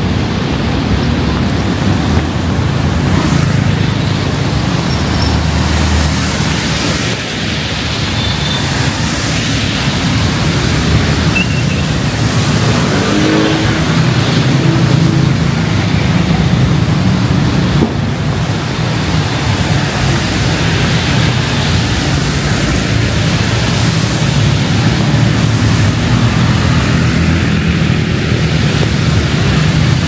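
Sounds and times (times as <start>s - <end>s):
rain hissing: 0.2s - 30.0s.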